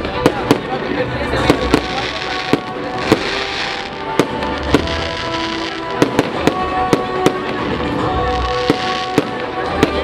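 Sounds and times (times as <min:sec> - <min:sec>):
fireworks bangs: 0:00.0 - 0:10.0
fireworks hissing crackle: 0:00.0 - 0:10.0
music with held notes: 0:00.0 - 0:10.0.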